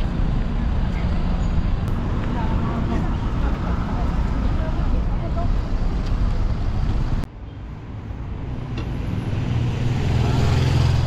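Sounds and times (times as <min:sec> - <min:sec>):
traffic rumble: 0:00.0 - 0:11.0
vehicle engine hum: 0:00.0 - 0:11.0.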